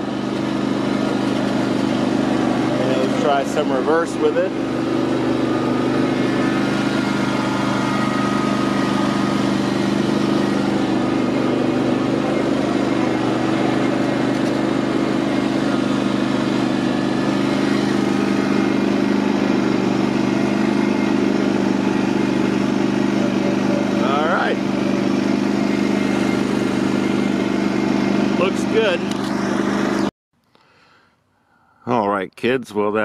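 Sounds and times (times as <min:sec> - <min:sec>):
garden tractor engine running: 0:00.0 - 0:31.0.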